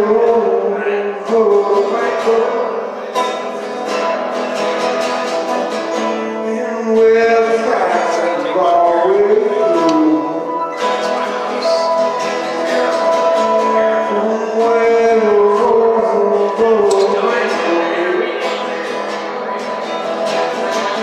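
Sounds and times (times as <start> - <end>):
person singing: 0.0 - 4.3, 5.1 - 21.0
guitar strumming: 0.0 - 21.0.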